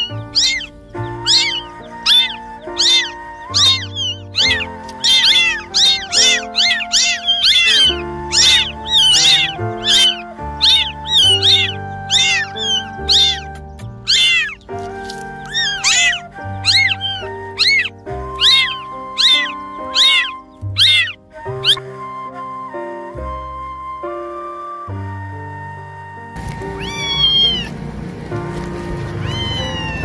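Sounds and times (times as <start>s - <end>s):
cats meowing: 0.0s - 21.9s, 26.4s - 27.8s, 28.5s - 30.0s.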